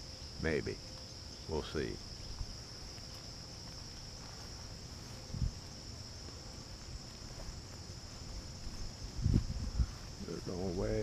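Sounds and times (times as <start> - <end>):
insect chorus trilling: 0.0 - 11.0.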